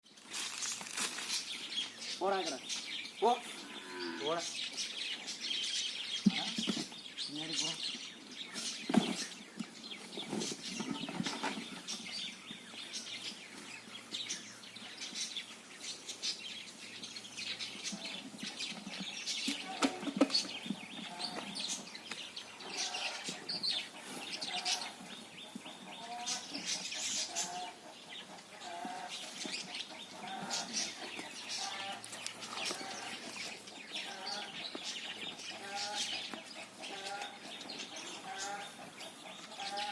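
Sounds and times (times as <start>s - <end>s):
birds clucking and chirping: 0.0s - 39.9s.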